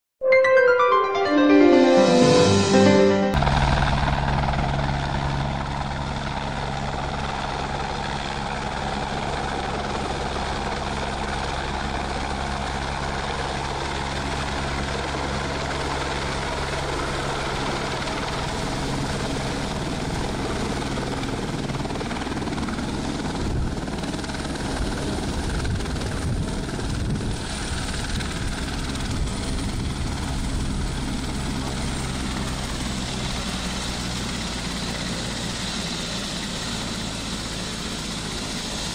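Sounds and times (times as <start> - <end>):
helicopter rotor and turbine drone: 3.4 - 38.9.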